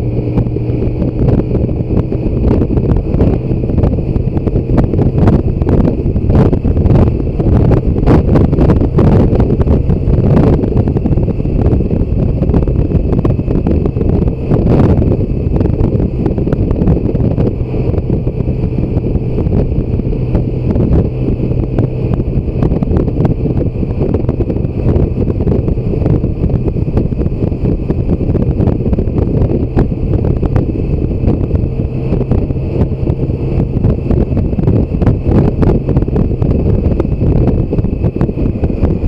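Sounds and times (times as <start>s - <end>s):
motorcycle engine drone: 0.0s - 39.0s
wind buffeting microphone: 0.0s - 39.0s.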